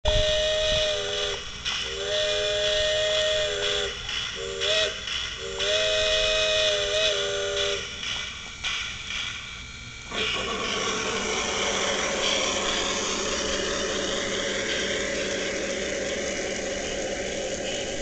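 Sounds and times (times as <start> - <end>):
model locomotive chord whistle: 0.1 - 8.1, 10.0 - 18.0
steady steam hiss: 0.1 - 18.0.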